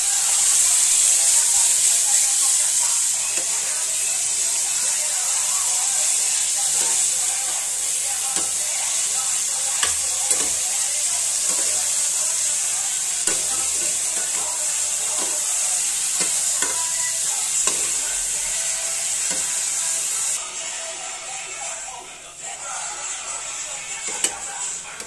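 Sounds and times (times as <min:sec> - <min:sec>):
meat sizzling in a pan: 0:00.0 - 0:25.0
spatula scraping a pan: 0:00.3 - 0:20.4, 0:22.8 - 0:25.0.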